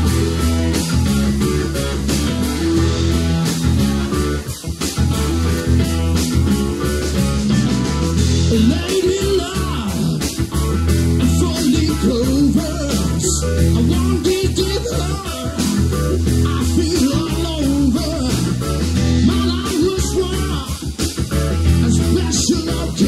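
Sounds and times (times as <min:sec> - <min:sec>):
drums: 0:00.0 - 0:23.0
electric guitar bending notes: 0:00.0 - 0:23.0
low-end beat: 0:00.0 - 0:23.0
stage keyboard: 0:00.0 - 0:23.0.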